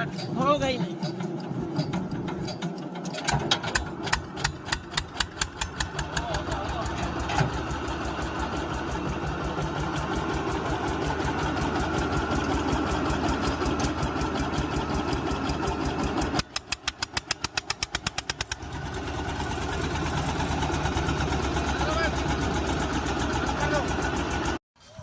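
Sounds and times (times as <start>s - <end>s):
tractor diesel engine idling: 0.0s - 24.6s.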